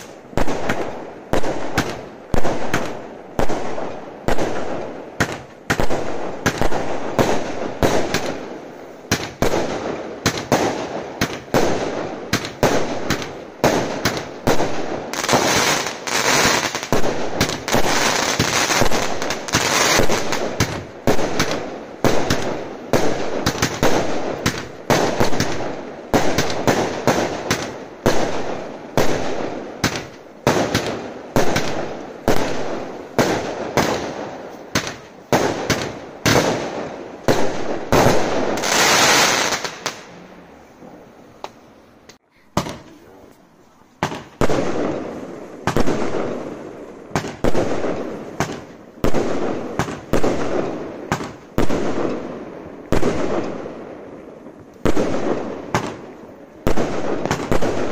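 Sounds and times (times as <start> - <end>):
fireworks bangs: 0.0 - 41.7, 42.3 - 57.9
fireworks crackling: 0.0 - 57.9.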